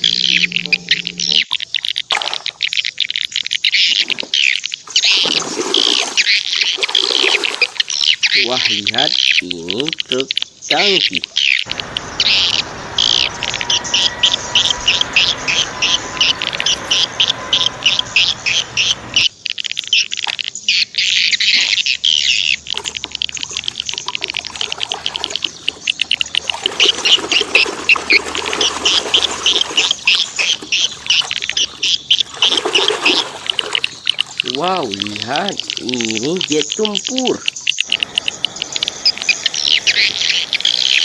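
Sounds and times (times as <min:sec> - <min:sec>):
water splashing: 0:00.0 - 0:20.8, 0:21.4 - 0:41.0
bird chirping high and fast: 0:00.0 - 0:41.0.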